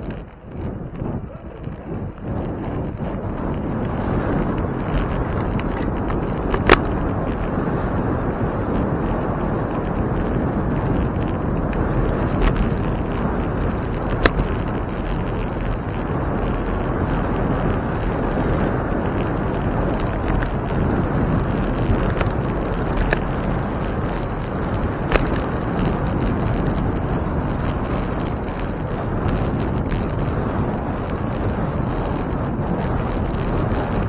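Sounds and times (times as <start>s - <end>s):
bicycle rolling over pavement: 0.0s - 34.0s
wind on microphone: 0.0s - 34.0s.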